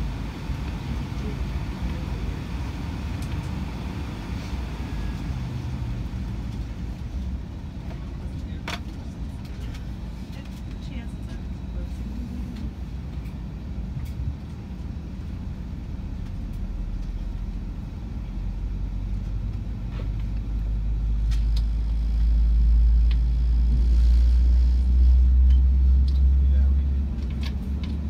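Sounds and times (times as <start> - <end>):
jet engines rumbling in cabin: 0.0 - 28.0.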